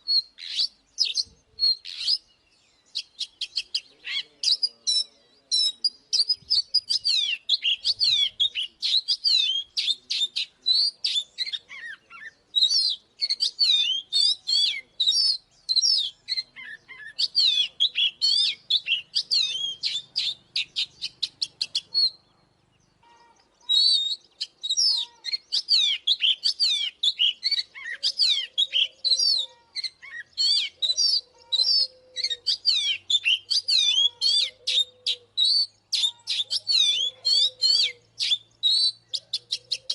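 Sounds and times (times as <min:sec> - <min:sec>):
bird singing whistled trills: 0:00.0 - 0:23.0, 0:23.6 - 0:39.9.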